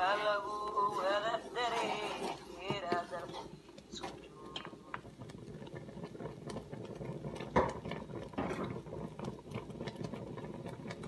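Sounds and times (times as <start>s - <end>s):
thick liquid bubbling in a pot: 0.0s - 11.0s.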